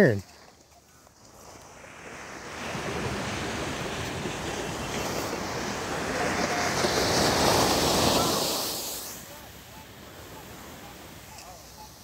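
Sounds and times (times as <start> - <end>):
ocean surf washing in: 1.3 - 12.0.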